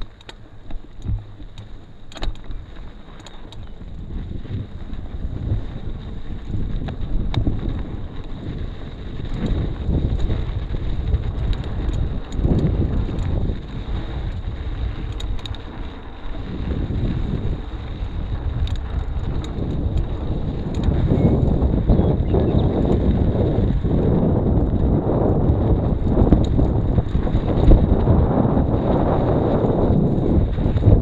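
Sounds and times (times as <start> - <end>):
sharp clicks and rattles: 0.0 - 31.0
wind buffeting microphone: 0.0 - 31.0.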